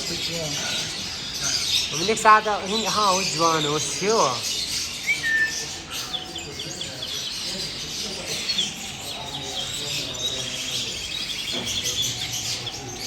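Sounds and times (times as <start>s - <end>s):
people talking: 0.0s - 13.0s
small birds chirping and trilling: 0.0s - 13.0s.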